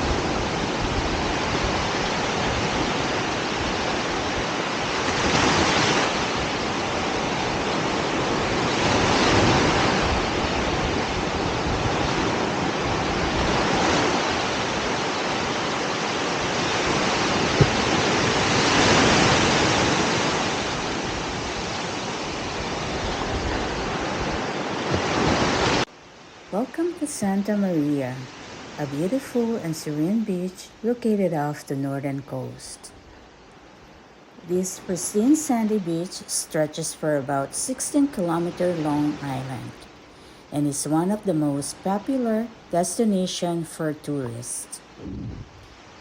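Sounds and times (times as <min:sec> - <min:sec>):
ocean surf on sandy beach: 0:00.0 - 0:46.0.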